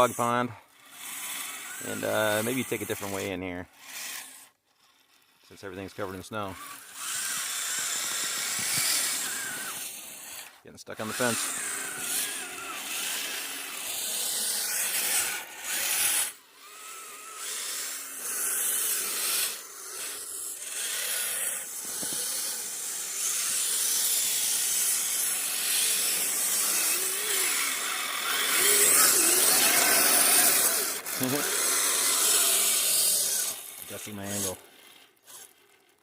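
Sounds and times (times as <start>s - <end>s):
electric motor and gears whining: 0.0s - 36.0s.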